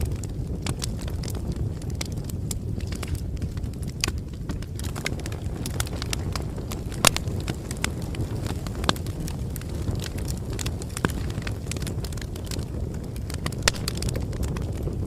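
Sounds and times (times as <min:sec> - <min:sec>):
bonfire crackling: 0:00.0 - 0:15.0.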